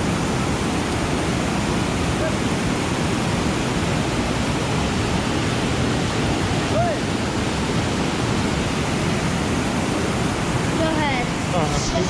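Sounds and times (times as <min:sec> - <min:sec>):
water rushing over waterfall: 0:00.0 - 0:12.0.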